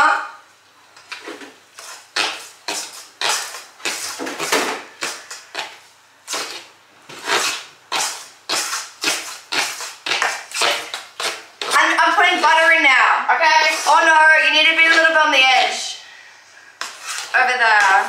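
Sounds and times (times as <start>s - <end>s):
utensil scraping batter in saucepan: 1.1s - 15.9s, 16.6s - 18.0s.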